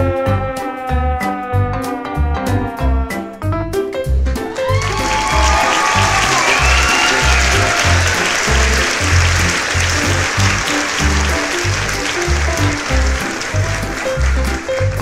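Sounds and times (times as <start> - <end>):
upbeat background music: 0.0 - 15.0.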